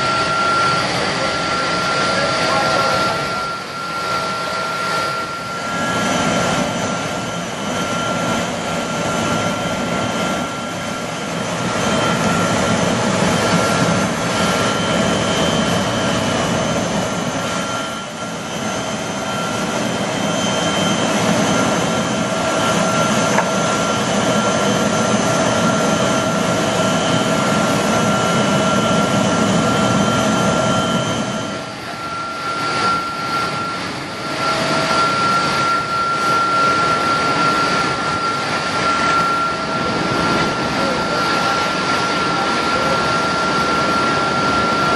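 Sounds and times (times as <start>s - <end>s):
aircraft turbine whine: 0.0s - 44.9s.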